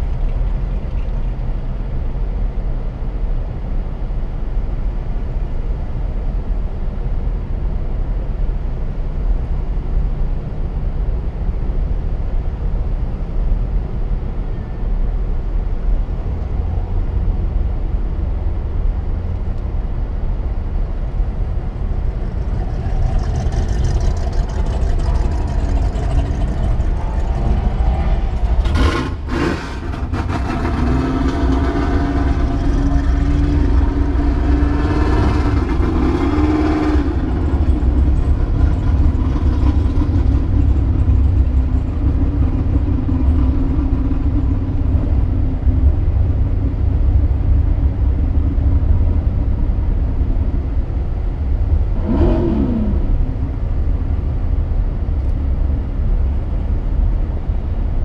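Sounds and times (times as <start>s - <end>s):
car engine rumble inside cabin: 0.0s - 58.0s
steady hum: 0.0s - 58.0s.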